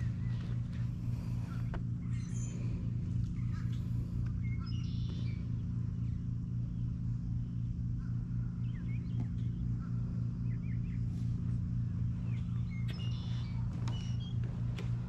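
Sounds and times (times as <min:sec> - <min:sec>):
low mechanical hum: 0:00.0 - 0:15.0
small birds chirping: 0:00.0 - 0:15.0.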